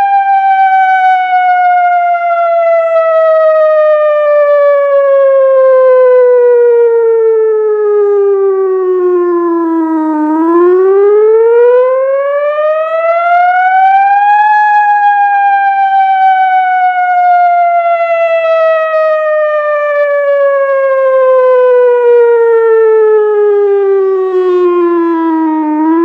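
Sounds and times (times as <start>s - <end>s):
outdoor warning siren wailing: 0.0s - 26.0s.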